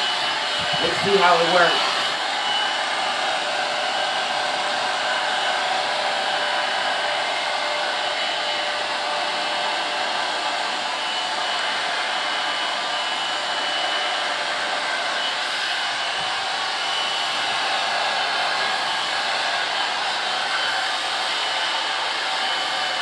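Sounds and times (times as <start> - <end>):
hair dryer blowing with whine: 0.0 - 23.0.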